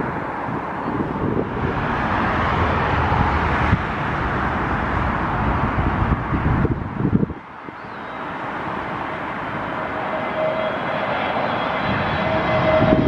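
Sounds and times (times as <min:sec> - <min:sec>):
jet airliner passing overhead: 0:00.0 - 0:13.0
wind buffeting microphone: 0:00.0 - 0:13.0.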